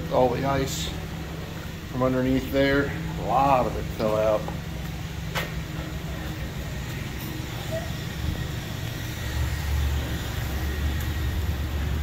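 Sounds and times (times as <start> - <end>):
car wash machinery rumble: 0.0 - 12.0.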